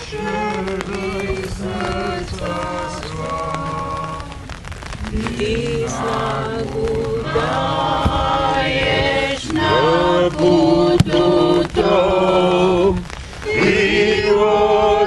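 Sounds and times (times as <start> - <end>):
group singing a hymn: 0.0 - 15.0.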